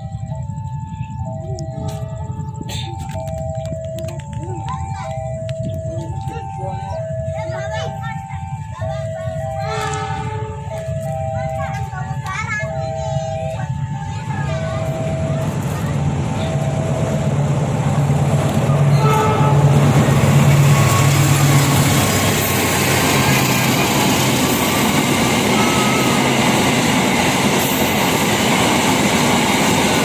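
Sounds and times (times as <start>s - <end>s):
train rumbling on rails: 0.0s - 30.0s.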